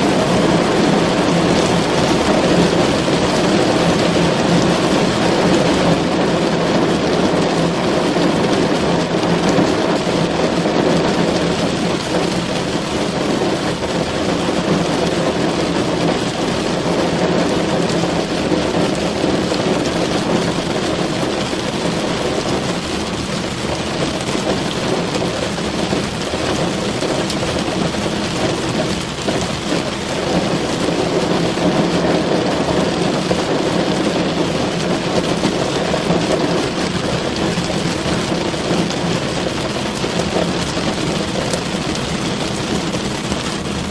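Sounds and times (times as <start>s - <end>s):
rain drumming on car roof: 0.0s - 43.9s.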